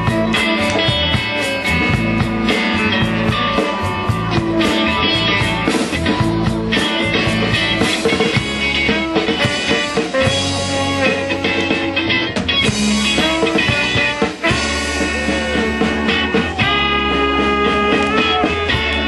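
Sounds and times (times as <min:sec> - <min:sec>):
drums: 0:00.0 - 0:19.0
electric bass guitar: 0:00.0 - 0:19.0
rock band playing: 0:00.0 - 0:19.0.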